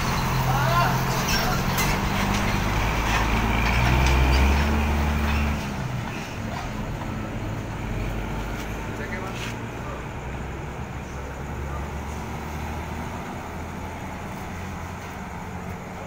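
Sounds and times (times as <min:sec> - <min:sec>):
bus diesel engine accelerating: 0:00.0 - 0:16.0.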